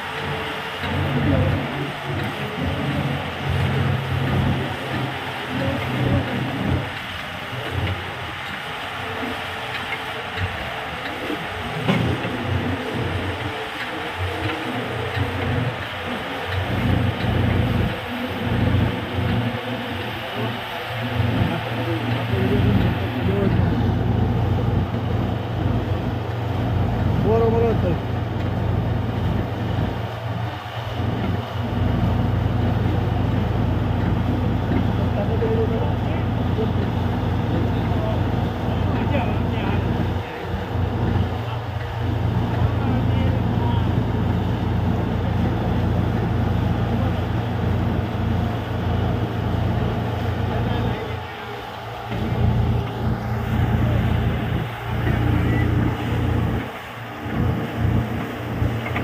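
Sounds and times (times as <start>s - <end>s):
drilling rig din: 0.0s - 59.0s
low engine hum: 0.0s - 59.0s.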